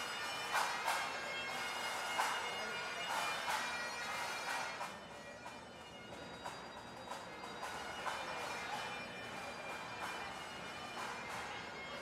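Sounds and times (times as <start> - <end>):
bagpipes playing: 0.0 - 12.0.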